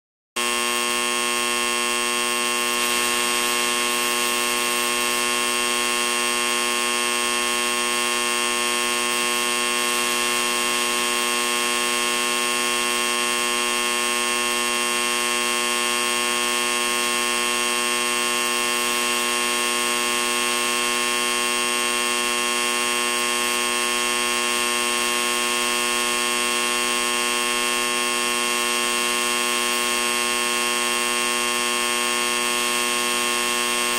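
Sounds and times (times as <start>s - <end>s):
steady buzzing drone: 0.4s - 33.9s.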